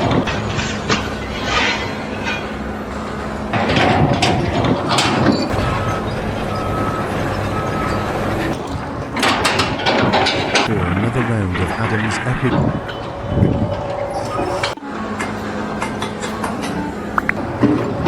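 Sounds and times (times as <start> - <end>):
heavy engine running: 0.0 - 18.0
knocks and clanks: 0.0 - 18.0.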